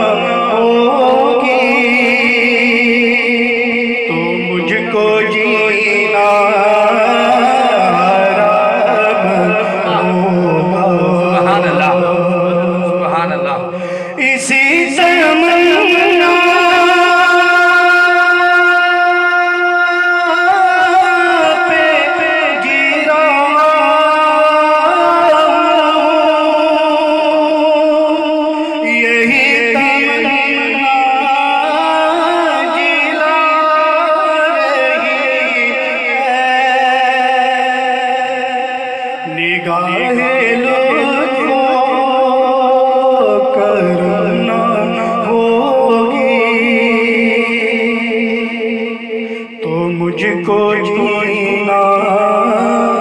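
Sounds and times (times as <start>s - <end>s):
man singing into a microphone: 0.0s - 53.0s.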